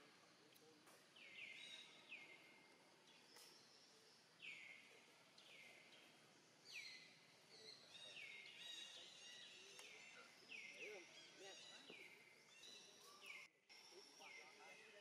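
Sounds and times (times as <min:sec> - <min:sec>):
distant bird calls: 0:00.0 - 0:15.0.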